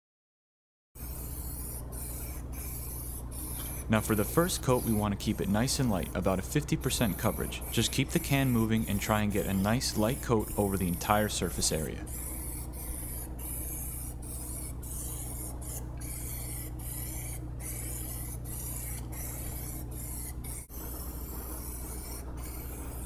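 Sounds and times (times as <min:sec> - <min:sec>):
aerosol spray can hissing: 0:01.0 - 0:23.0
steady low hum: 0:01.0 - 0:23.0.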